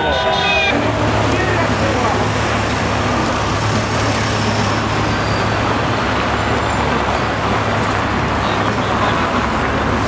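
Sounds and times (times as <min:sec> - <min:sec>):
cars driving past: 0:00.0 - 0:10.0
city street traffic: 0:00.0 - 0:10.0.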